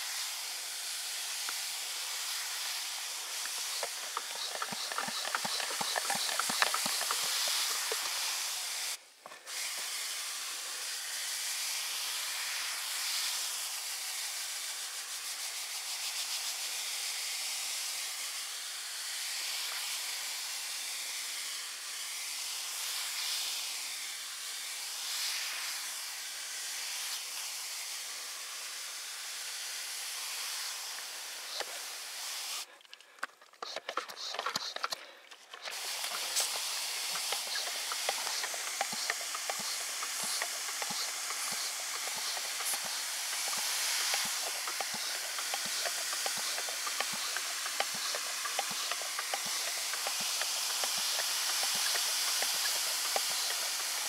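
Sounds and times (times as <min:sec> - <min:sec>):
pressure sprayer hissing: 0:00.0 - 0:54.0.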